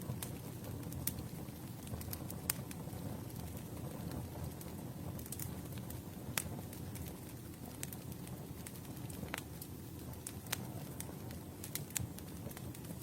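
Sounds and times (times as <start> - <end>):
campfire flames rumbling: 0.0 - 13.0
wood crackling and popping: 0.0 - 13.0.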